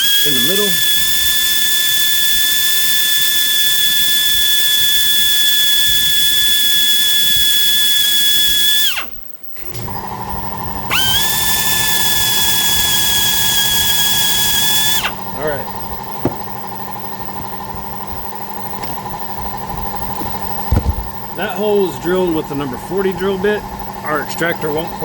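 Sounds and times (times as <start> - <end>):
electric drill whining: 0.0 - 23.4.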